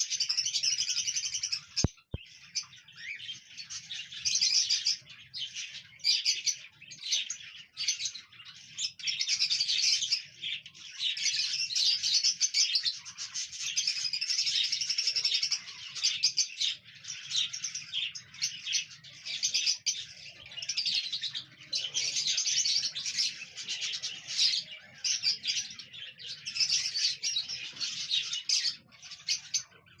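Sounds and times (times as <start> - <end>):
cockatiels chirping and warbling: 0.0 - 30.0.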